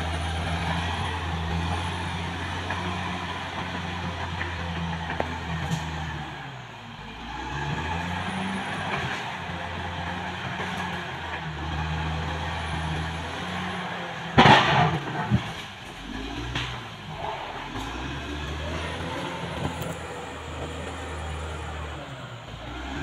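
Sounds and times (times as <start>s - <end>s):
bulldozer diesel engine under load: 0.0s - 23.0s.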